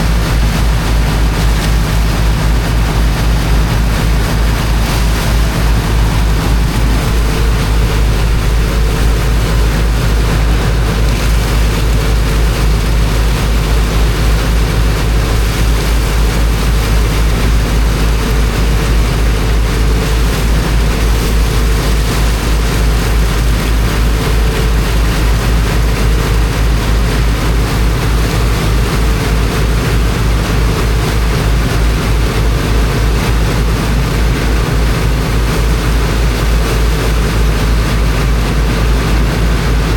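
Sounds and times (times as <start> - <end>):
water jetting into sand: 0.0 - 39.9
water pump engine throbbing: 0.0 - 39.9.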